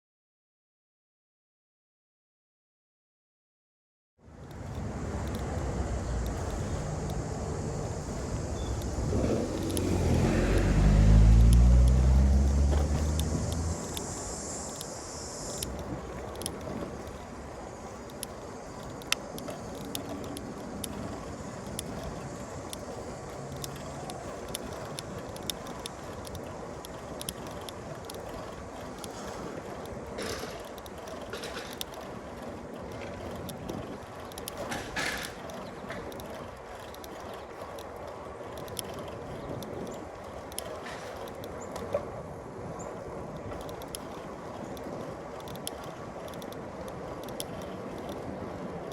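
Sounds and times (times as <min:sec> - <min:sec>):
bicycle tyre and road noise: 0:04.2 - 0:48.9
bicycle clicks and rattles: 0:04.3 - 0:48.9.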